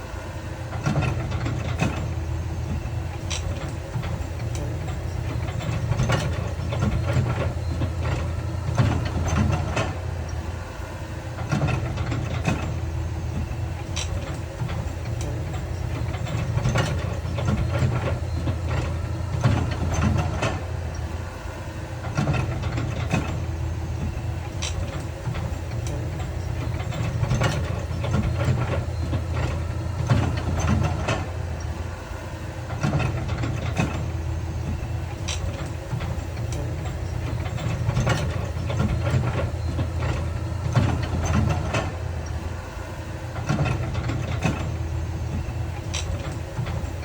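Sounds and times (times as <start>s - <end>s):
diesel machinery droning: 0.0s - 47.0s.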